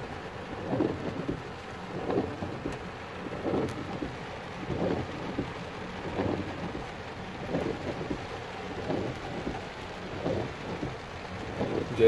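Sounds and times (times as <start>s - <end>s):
heavy rain on car roof: 0.0s - 12.0s
patter of heavy raindrops: 0.0s - 12.0s.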